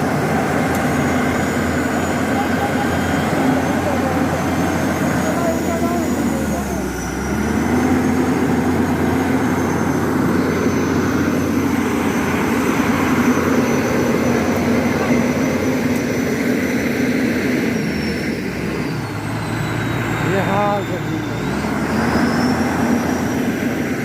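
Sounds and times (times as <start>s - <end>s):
excavator diesel engine droning: 0.0s - 24.0s.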